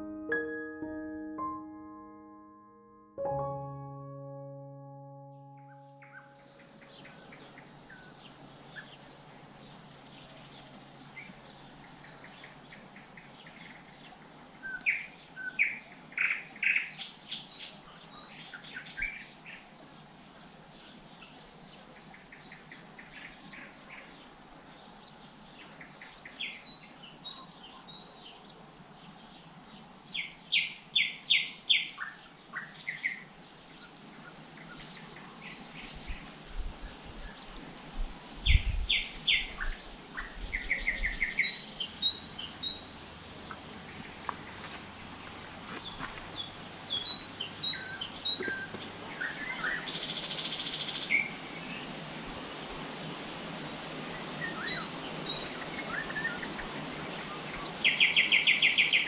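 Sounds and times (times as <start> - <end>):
songbirds chirping: 3.2 - 59.0.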